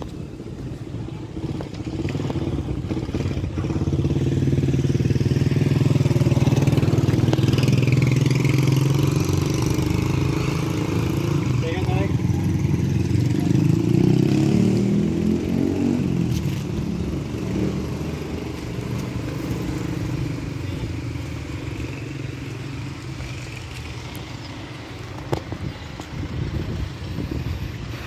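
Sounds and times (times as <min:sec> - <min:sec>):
low rumble of traffic: 0:00.0 - 0:28.0.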